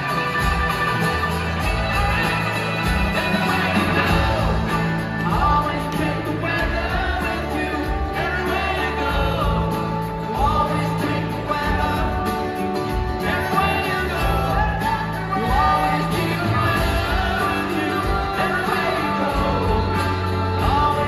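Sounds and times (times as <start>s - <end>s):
drums: 0.0s - 21.0s
guitars and mandolins: 0.0s - 21.0s
lead vocal singing: 0.0s - 21.0s.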